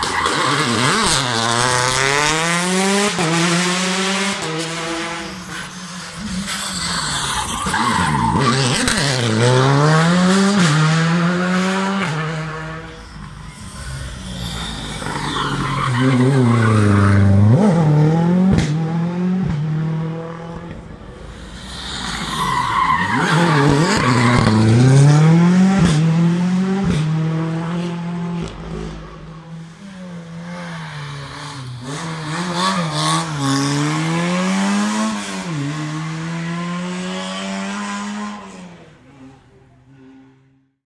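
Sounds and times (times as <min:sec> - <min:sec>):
rally car engines revving: 0:00.0 - 0:40.3.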